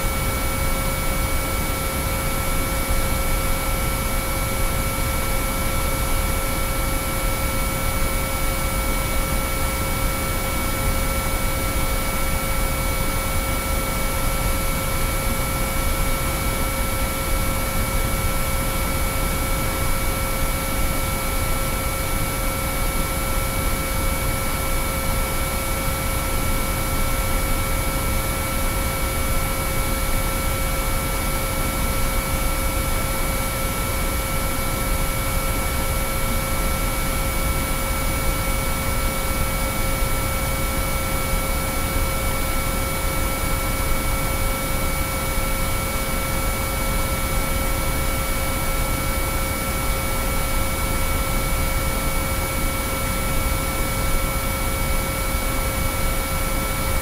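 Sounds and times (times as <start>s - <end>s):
steady sine-wave tones: 0.0s - 57.0s.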